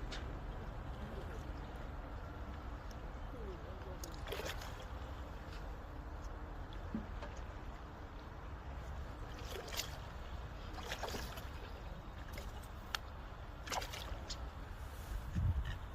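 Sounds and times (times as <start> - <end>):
water sloshing and splashing: 0.0 - 15.9.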